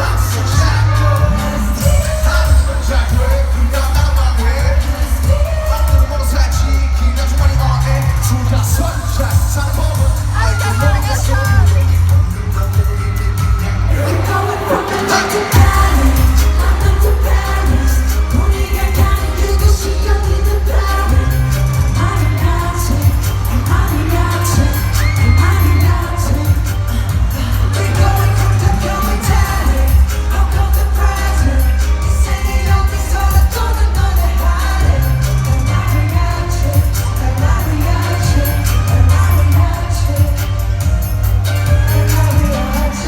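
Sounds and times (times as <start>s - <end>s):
crowd cheering: 0.0s - 43.0s
pop song over sound system: 0.0s - 43.0s.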